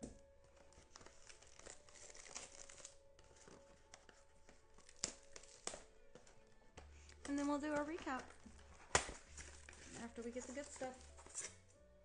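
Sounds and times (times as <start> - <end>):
plastic wrapping crinkling: 0.3 - 11.7.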